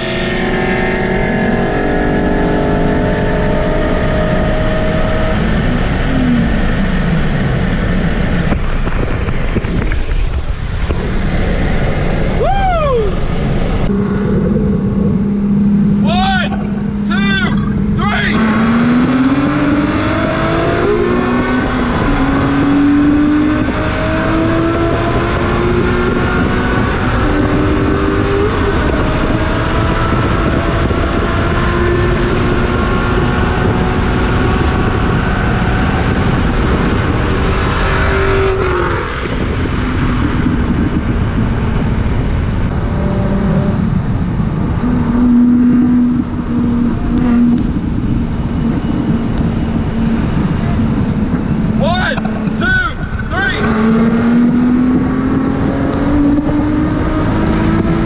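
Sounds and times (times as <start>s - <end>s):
car engine revving at full throttle: 0.0s - 58.0s.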